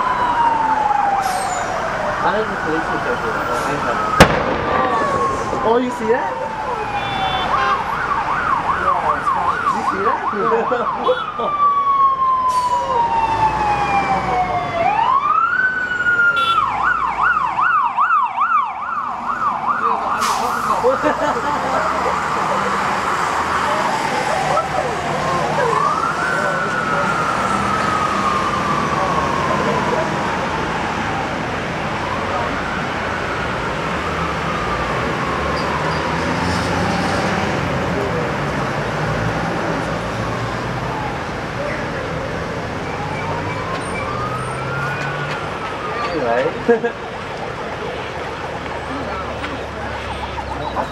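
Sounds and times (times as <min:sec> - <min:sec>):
emergency vehicle siren wailing: 0:00.0 - 0:50.9
road traffic rumble: 0:00.0 - 0:50.9.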